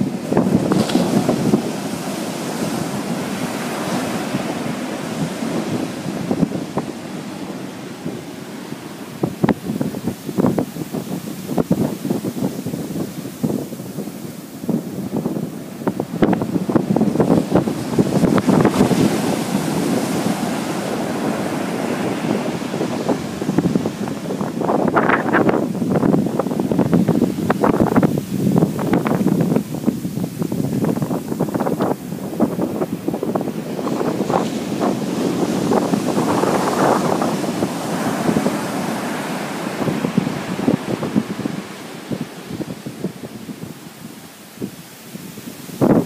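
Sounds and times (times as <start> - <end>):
ocean surf breaking on a beach: 0.0 - 46.0
wind buffeting the microphone: 0.0 - 46.0.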